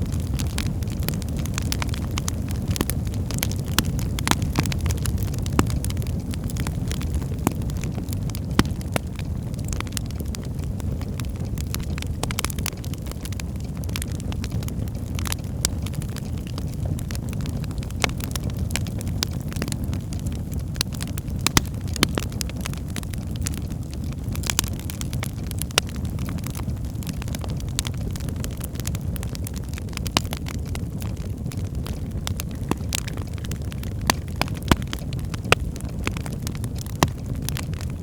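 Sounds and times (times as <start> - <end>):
fireplace fire crackling and popping: 0.0 - 38.0.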